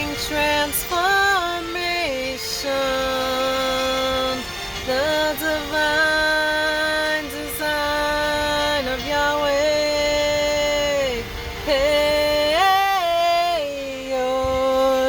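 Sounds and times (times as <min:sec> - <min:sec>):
steady sustained tone: 0:00.0 - 0:15.0
woman singing wordless notes: 0:00.0 - 0:15.0.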